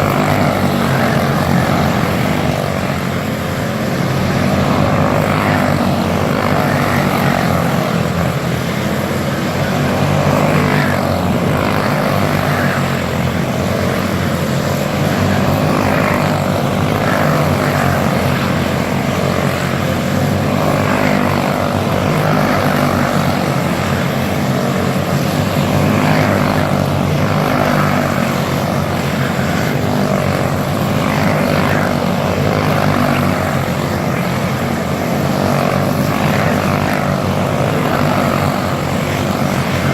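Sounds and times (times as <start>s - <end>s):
racing kart engines buzzing: 0.0s - 39.9s.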